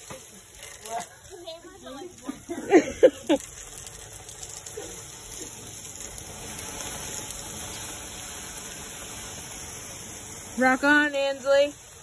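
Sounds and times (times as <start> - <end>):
garden hose spraying water: 0.0 - 12.0.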